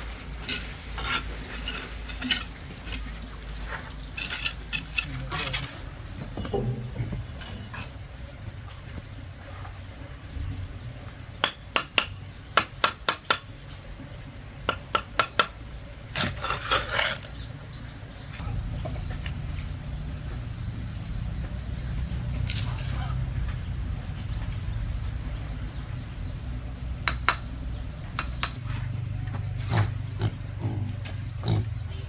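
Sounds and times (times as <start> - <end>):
crickets droning: 0.0 - 32.0.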